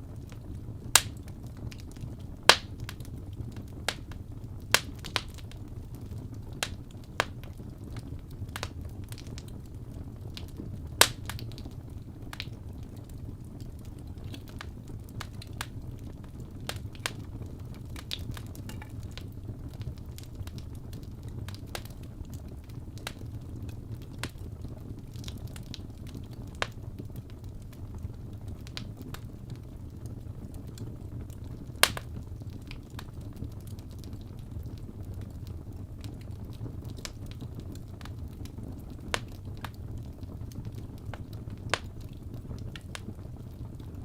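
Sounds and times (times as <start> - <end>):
low fire rumble: 0.0 - 44.0
wood fire crackling: 0.0 - 44.0.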